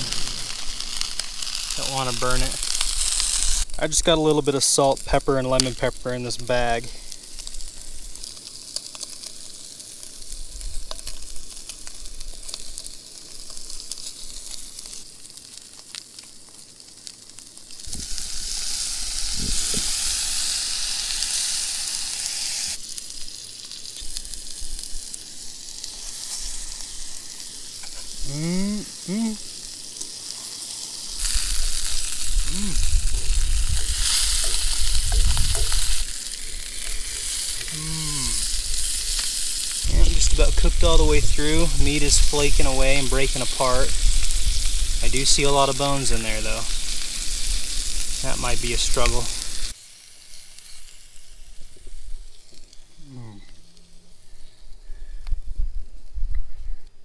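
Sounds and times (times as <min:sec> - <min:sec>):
fish fillets sizzling in frying pan: 0:00.0 - 0:03.8, 0:05.4 - 0:52.8.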